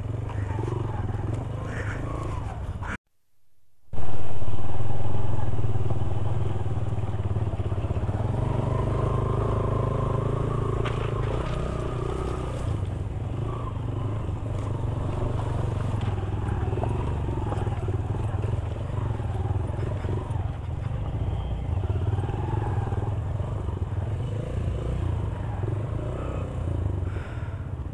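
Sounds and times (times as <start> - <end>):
motorcycle engine running: 0.0 - 2.9, 4.0 - 27.9.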